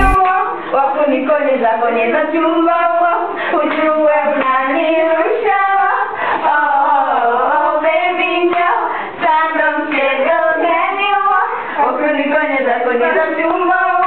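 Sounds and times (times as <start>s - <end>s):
girls singing unaccompanied: 1.1s - 14.0s.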